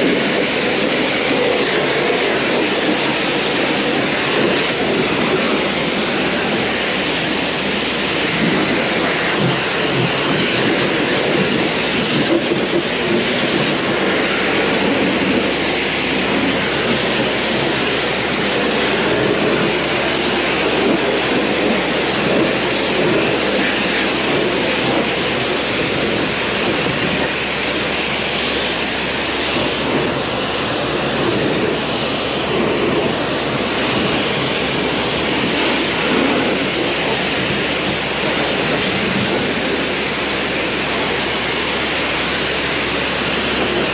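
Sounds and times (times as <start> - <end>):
pressure washer spray on metal wheel: 0.0 - 43.9.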